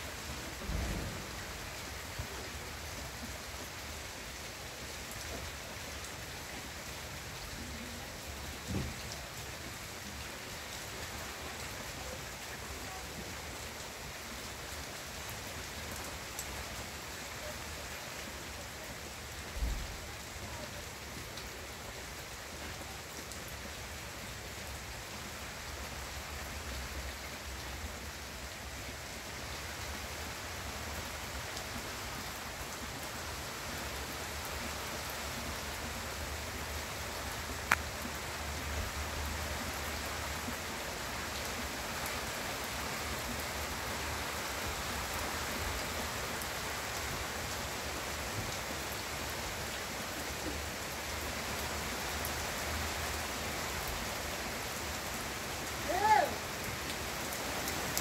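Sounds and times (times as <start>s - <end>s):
rain falling on foliage: 0.0s - 58.0s.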